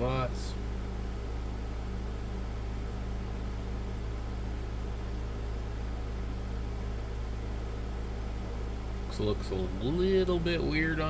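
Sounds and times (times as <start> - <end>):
steady hum and hiss: 0.0 - 11.0.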